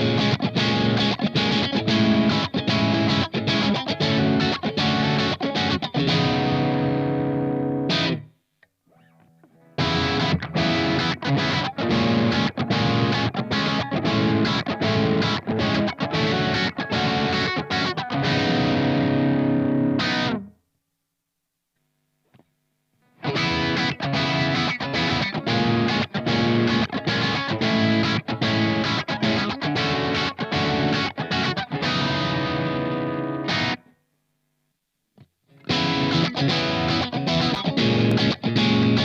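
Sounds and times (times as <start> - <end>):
distorted electric guitar riffing: 0.0 - 8.3, 8.9 - 20.5, 23.1 - 33.9, 35.5 - 39.0.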